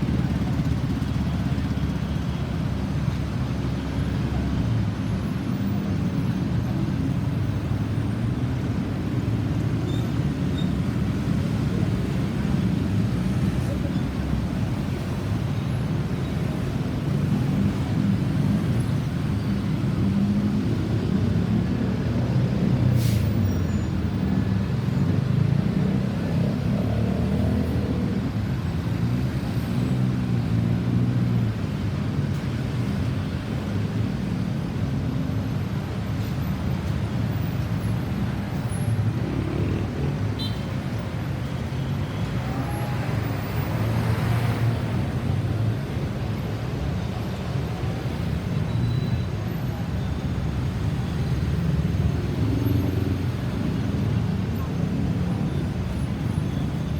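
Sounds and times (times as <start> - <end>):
traffic rumble: 0.0 - 56.9.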